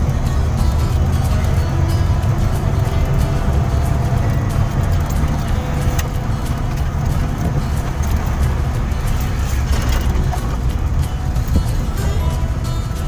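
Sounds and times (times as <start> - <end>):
engine and road noise in vehicle: 0.0 - 13.0.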